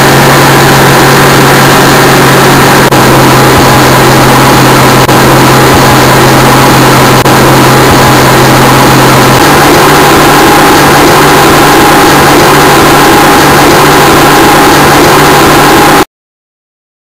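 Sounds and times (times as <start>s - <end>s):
boat engine running loud: 0.0s - 16.1s.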